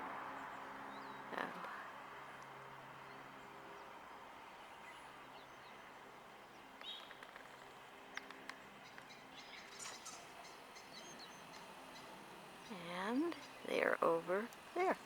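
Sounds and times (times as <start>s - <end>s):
faint distant bird chirps: 0.3s - 15.0s.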